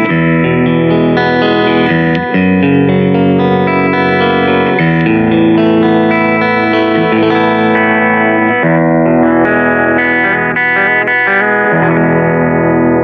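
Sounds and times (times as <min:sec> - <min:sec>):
distorted electric guitar melody: 0:00.0 - 0:13.0.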